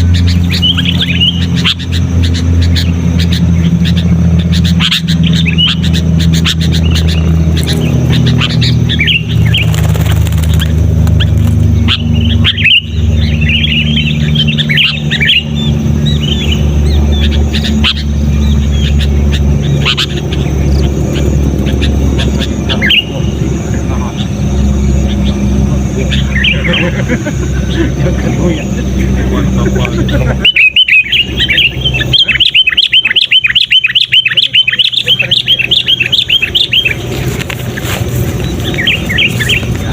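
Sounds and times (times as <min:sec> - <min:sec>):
bird chattering call: 0:00.0 - 0:39.9
bulbuls chirping: 0:00.0 - 0:39.9
low hum: 0:00.0 - 0:39.9.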